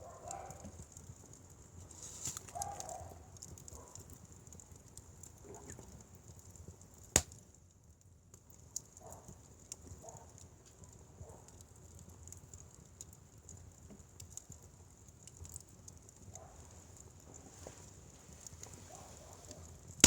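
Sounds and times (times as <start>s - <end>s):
firewood crackling: 0.5s - 9.9s, 10.5s - 20.0s.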